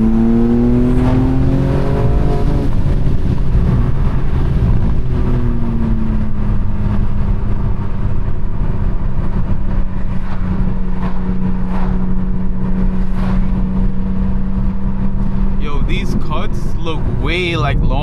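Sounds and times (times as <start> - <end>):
car engine and exhaust drone: 0.0 - 18.0
road rumble: 0.0 - 18.0.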